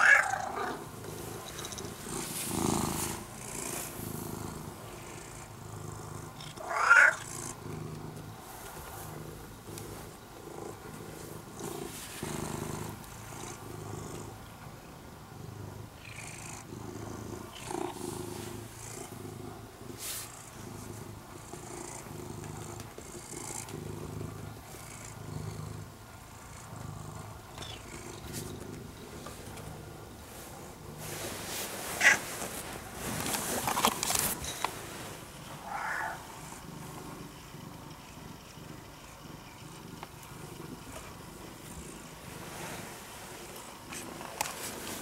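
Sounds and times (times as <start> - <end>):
cat purring: 0.0 - 45.0.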